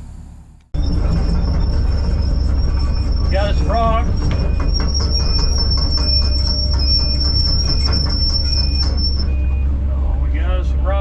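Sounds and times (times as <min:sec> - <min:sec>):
excavator diesel engine rumble: 0:00.0 - 0:11.0
high-pitched whine: 0:00.8 - 0:09.6.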